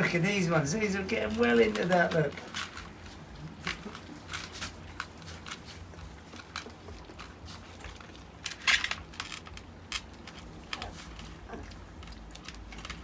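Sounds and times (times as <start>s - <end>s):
puppies eating wet food: 0.0s - 13.0s.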